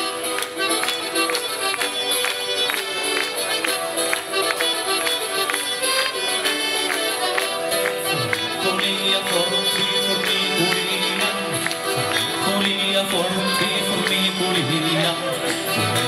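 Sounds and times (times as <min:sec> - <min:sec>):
folk melody instruments: 0:00.0 - 0:16.0
strummed acoustic guitars: 0:00.0 - 0:16.0.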